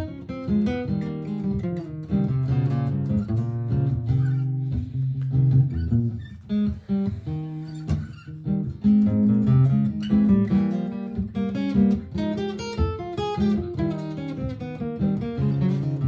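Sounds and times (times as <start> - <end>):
acoustic guitar strumming and picking: 0.0 - 16.0
looped guitar part: 0.0 - 16.0.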